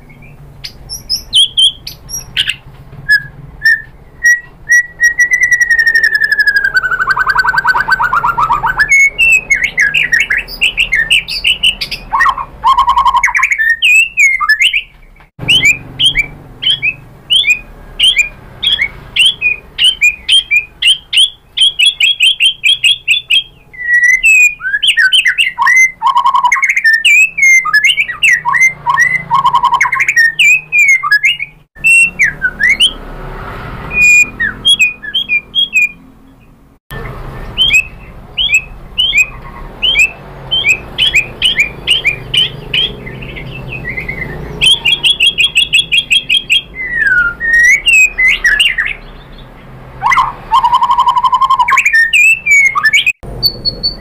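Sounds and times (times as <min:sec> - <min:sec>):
bird singing chirps and whistles: 0:00.0 - 0:33.0, 0:33.9 - 0:54.0.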